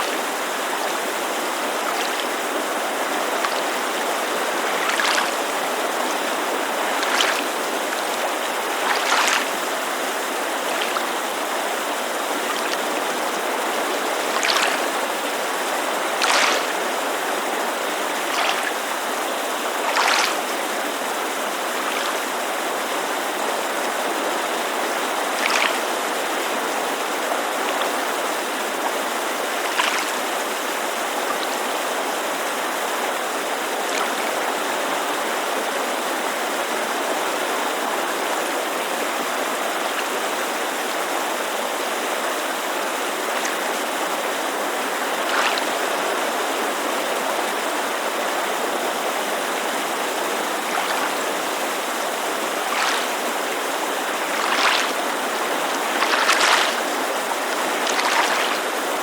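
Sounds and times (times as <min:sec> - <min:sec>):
creek rushing: 0:00.0 - 0:59.0
small waves lapping: 0:00.0 - 0:59.0.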